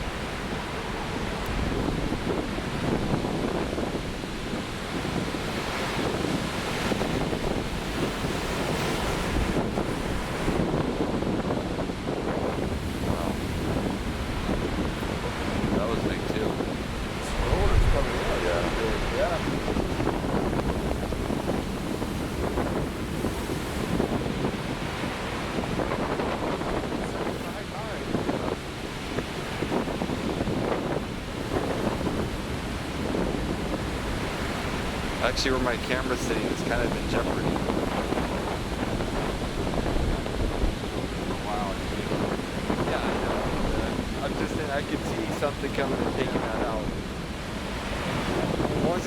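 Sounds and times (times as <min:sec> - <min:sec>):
surf waves breaking: 0:00.0 - 0:49.0
wind buffeting microphone: 0:00.0 - 0:49.0.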